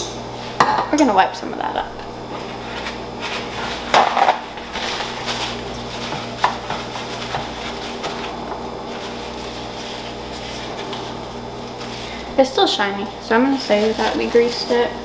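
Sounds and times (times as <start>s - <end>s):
paper towel rubbing: 2.3s - 14.9s.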